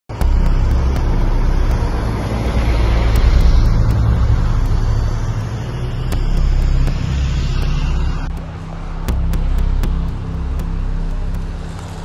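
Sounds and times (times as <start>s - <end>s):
road traffic rumble: 0.1s - 12.0s.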